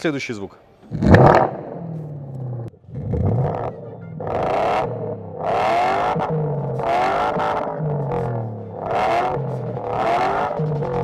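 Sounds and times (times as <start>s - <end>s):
synthesized engine revving: 0.9s - 11.0s.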